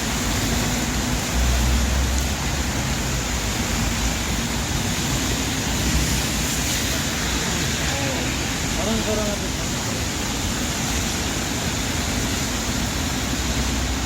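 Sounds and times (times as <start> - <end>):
rain on a street: 0.0 - 14.0
road traffic passing: 0.0 - 14.0.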